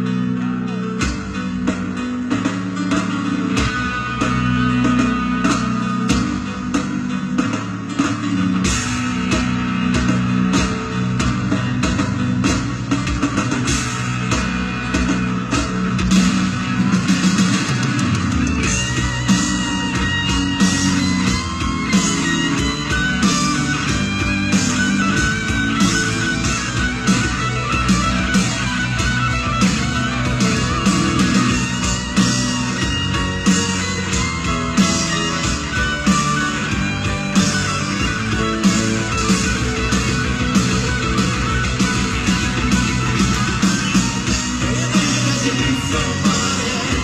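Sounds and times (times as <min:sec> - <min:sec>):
bass: 0:00.0 - 0:47.0
drums: 0:00.0 - 0:47.0
electric guitar: 0:00.0 - 0:47.0
live rock band playing: 0:00.0 - 0:47.0
piano: 0:00.0 - 0:47.0.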